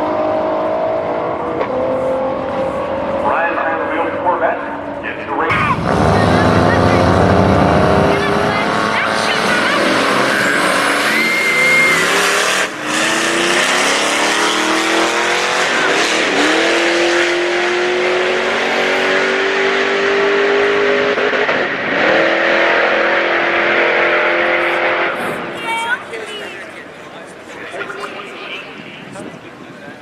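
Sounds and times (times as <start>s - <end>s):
car engine at full throttle: 0.0s - 26.3s.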